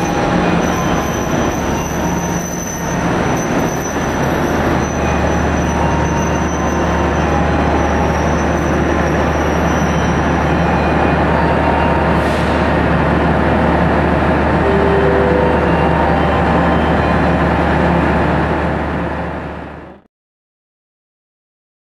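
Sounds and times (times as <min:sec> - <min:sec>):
diesel train engine drone: 0:00.0 - 0:20.1.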